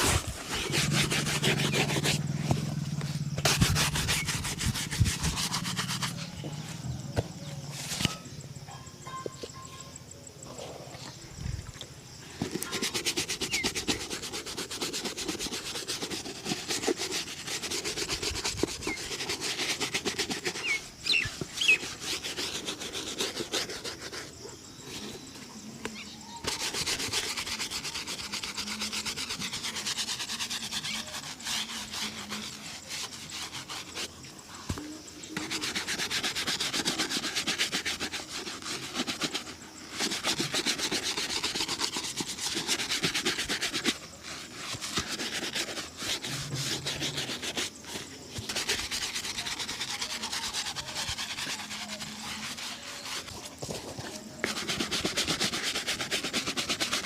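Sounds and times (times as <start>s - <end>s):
brush rubbing shoe leather: 0.0s - 8.3s, 12.1s - 25.4s, 26.2s - 57.0s.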